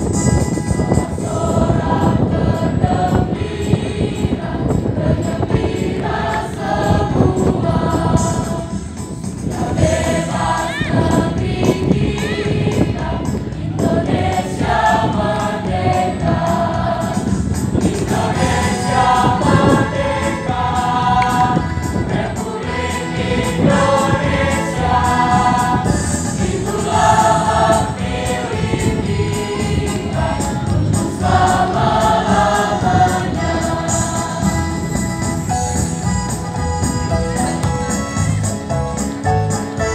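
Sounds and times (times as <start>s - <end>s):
choir singing: 0.9s - 35.5s.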